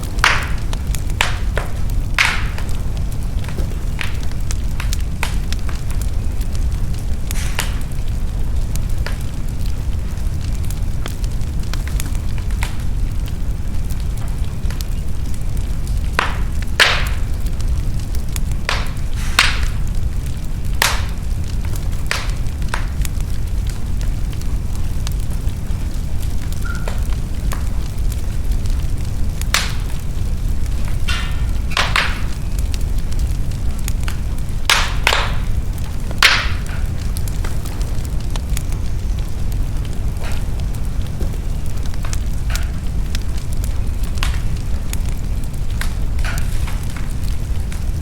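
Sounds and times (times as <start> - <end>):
faint fire ticks: 0.0 - 48.0
fire crackling pops: 0.0 - 48.0
fire flames rumbling: 0.0 - 48.0.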